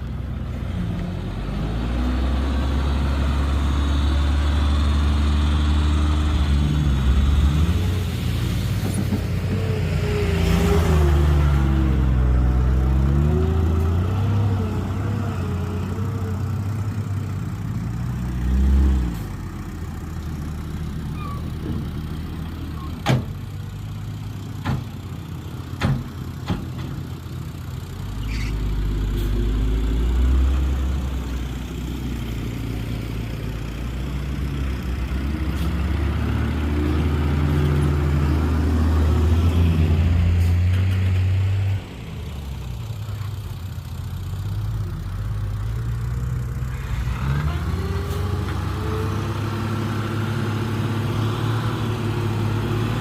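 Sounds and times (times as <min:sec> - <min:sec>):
heavy diesel engine revving: 0:00.5 - 0:23.0, 0:24.2 - 0:53.0.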